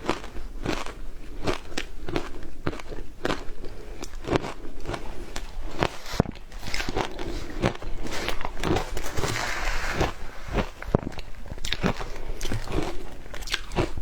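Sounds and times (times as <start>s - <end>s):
crunching of ice being chewed: 0.0s - 14.0s.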